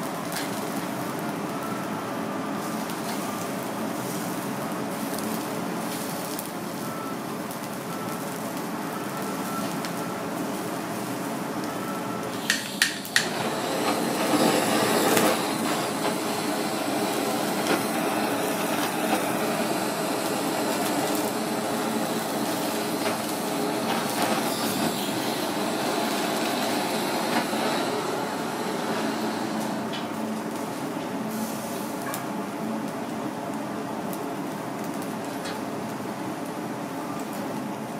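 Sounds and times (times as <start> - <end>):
blowtorch flame hissing: 0.0 - 37.6.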